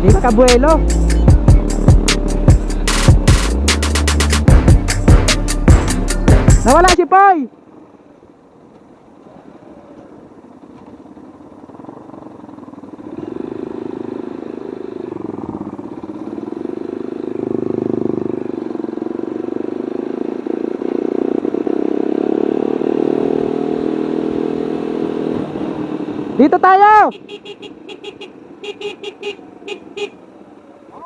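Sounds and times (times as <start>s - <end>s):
motorcycle engine running: 0.0s - 6.9s, 9.4s - 30.0s.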